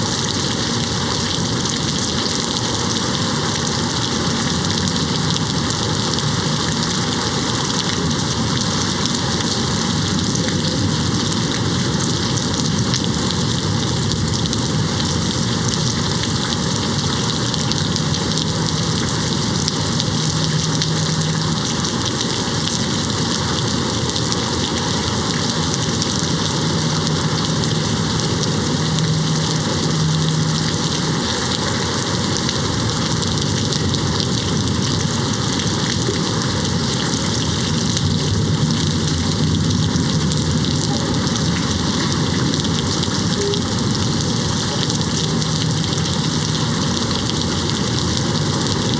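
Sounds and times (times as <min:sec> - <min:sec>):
rain hitting a window: 0:00.0 - 0:48.9.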